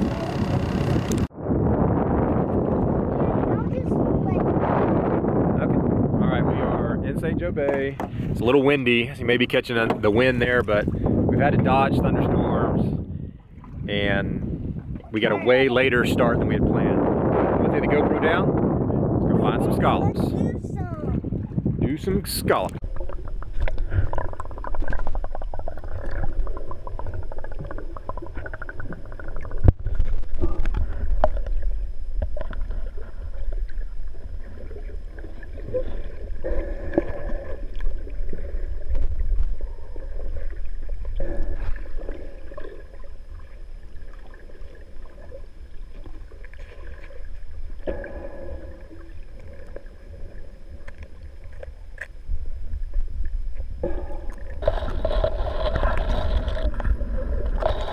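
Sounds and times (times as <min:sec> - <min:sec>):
muffled underwater rumble: 0:00.0 - 0:57.9
water sloshing and gurgling: 0:00.0 - 0:57.9.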